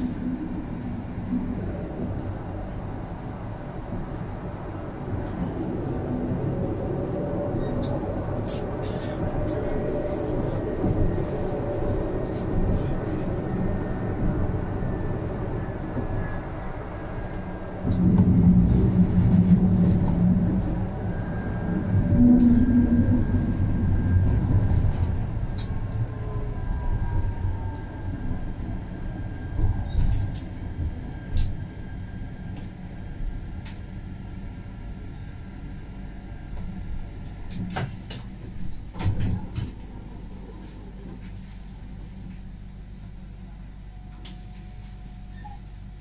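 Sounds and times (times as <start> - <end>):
tram rumbling on rails: 0.0 - 46.0.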